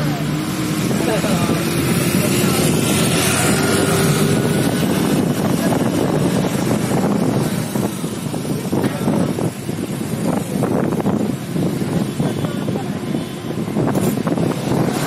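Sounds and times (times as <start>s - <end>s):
bus engine and road noise: 0.0s - 15.0s
wind on microphone: 0.0s - 15.0s.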